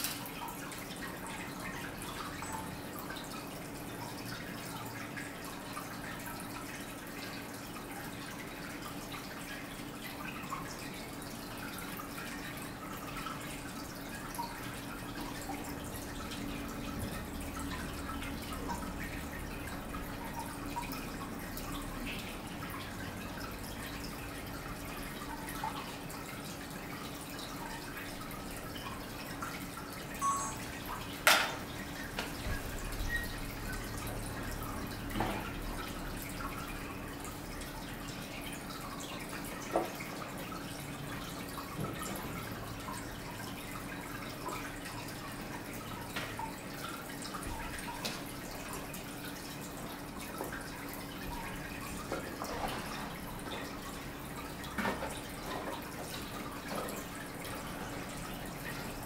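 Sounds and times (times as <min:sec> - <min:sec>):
water dripping: 0:00.0 - 0:59.0.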